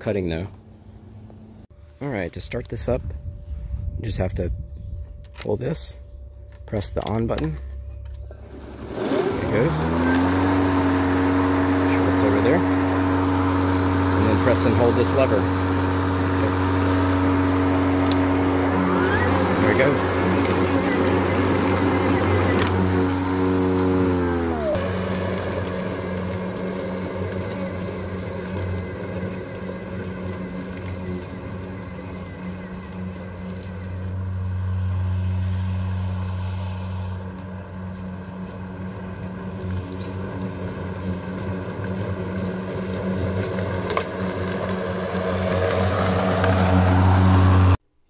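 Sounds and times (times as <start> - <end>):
lawn mower running: 6.5 - 47.8.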